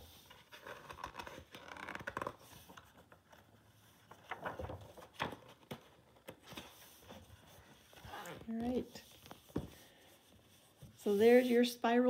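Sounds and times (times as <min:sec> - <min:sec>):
book pages turning: 0:00.0 - 0:11.2.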